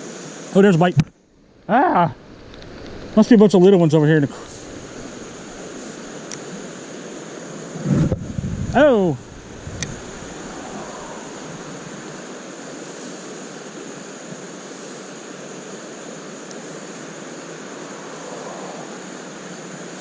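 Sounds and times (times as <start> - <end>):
creek water rushing over rocks: 0.0 - 20.0.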